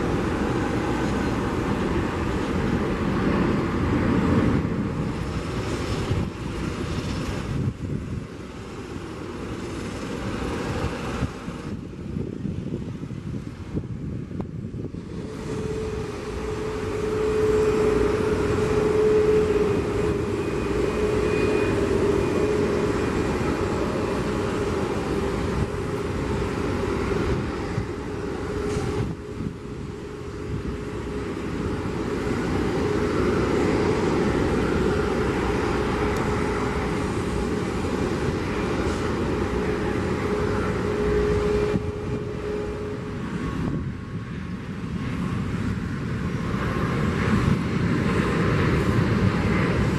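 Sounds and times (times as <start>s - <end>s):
jet engines whining: 0.0s - 49.9s
turboprop engines whining: 0.0s - 49.9s.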